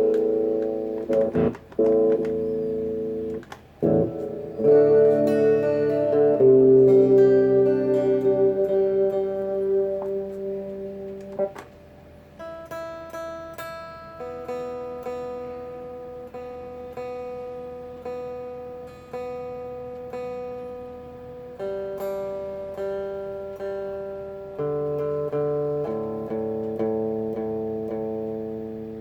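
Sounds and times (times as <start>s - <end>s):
clean electric guitar notes: 0.0s - 29.0s.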